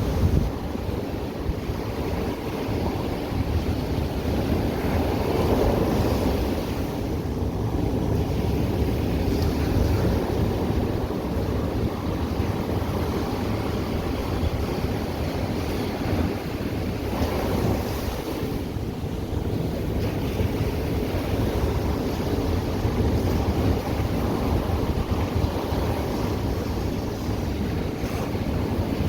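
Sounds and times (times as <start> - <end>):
ocean surf washing onto beach: 0.0 - 29.0
wind buffeting microphone: 0.0 - 29.0.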